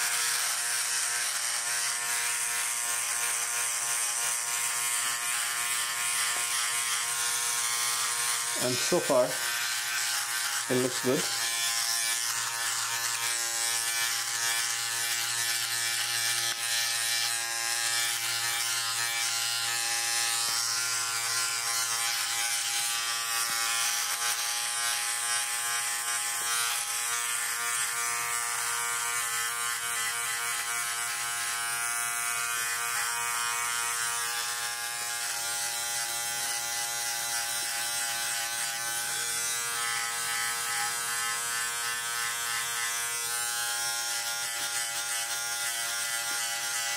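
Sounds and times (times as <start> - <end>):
electric shaver buzzing: 0.0 - 46.9.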